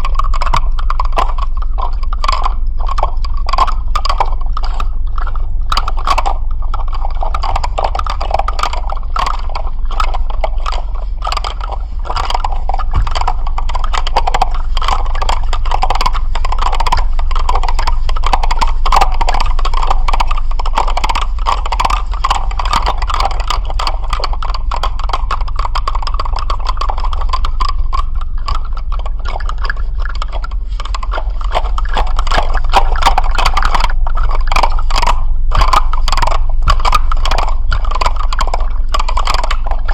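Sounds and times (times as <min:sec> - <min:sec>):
intense rapid clicking rattle: 0:00.0 - 0:39.9
steady low hum: 0:00.0 - 0:39.9.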